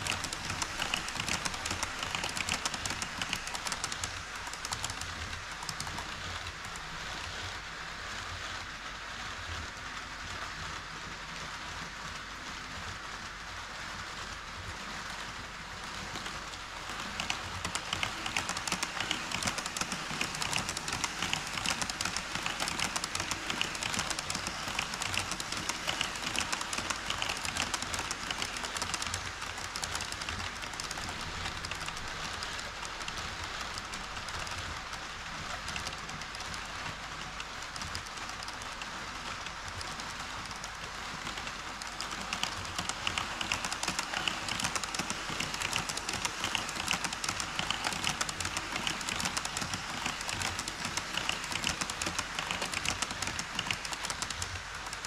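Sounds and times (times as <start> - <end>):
model train wheels clattering: 0.0 - 7.5, 14.0 - 55.0.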